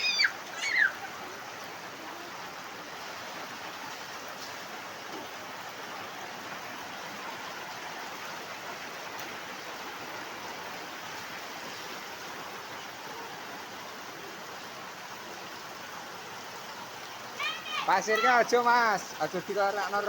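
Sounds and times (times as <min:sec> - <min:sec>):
falling rain: 0:00.0 - 0:20.0
running water: 0:00.0 - 0:20.0.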